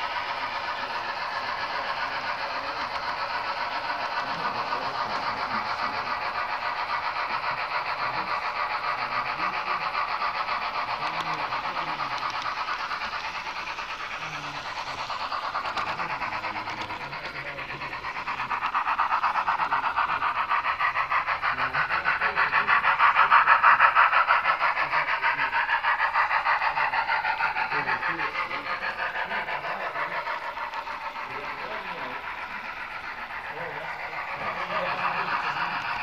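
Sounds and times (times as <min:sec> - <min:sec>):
model train rolling rattle: 0:00.0 - 0:36.0.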